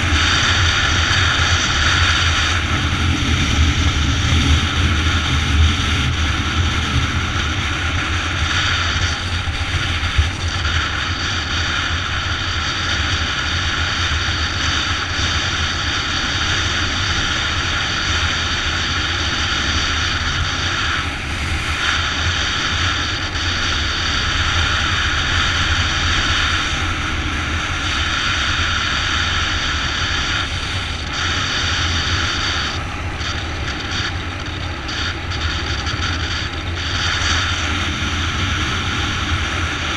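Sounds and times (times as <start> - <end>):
motorbike cruising: 0.0 - 39.9.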